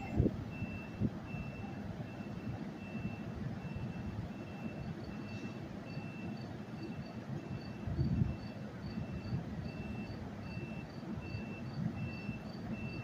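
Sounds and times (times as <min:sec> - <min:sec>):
train rumbling at platform: 0:00.0 - 0:13.0.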